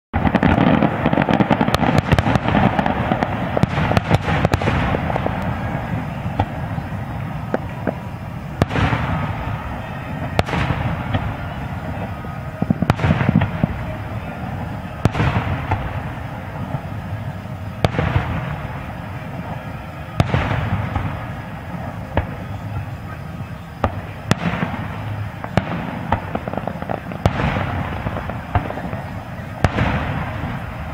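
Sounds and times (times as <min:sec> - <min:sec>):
firework shells bursting: 0:00.2 - 0:30.9.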